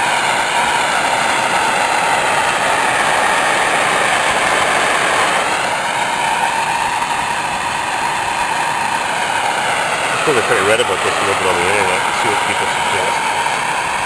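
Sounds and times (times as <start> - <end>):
gas torch flame rushing: 0.0 - 14.0.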